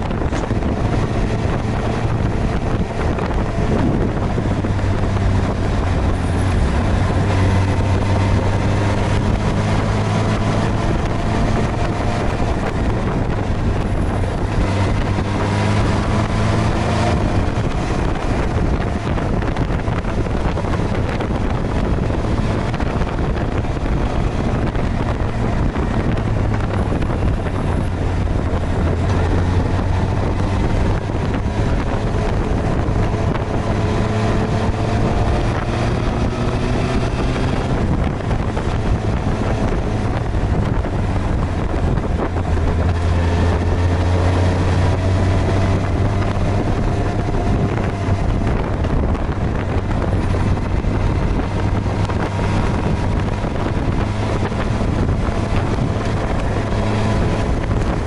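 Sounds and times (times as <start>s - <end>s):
motorcycle engine revving: 0.0s - 58.0s
wind noise on microphone: 0.0s - 58.0s.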